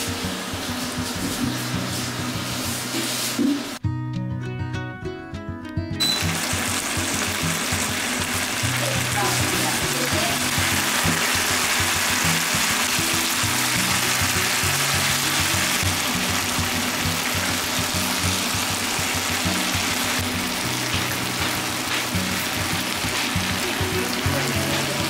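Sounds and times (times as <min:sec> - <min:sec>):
chicken sizzling in a frying pan: 0:00.0 - 0:03.8, 0:06.0 - 0:25.0
background music with bass line: 0:03.8 - 0:25.0.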